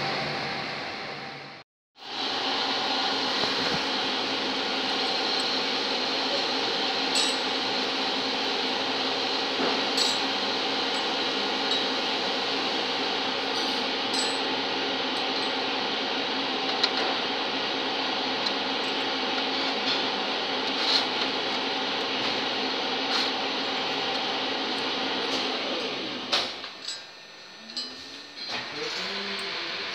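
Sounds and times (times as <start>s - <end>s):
workshop machinery drone: 0.0s - 29.9s.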